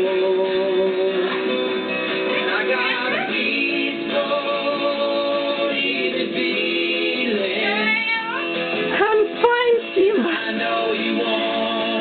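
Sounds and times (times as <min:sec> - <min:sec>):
guitar: 0:00.0 - 0:12.0
person singing: 0:00.0 - 0:12.0.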